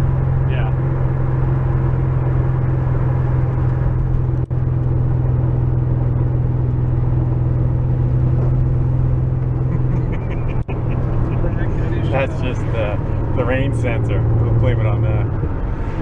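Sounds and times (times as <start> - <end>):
car engine drone from cabin: 0.0 - 16.0.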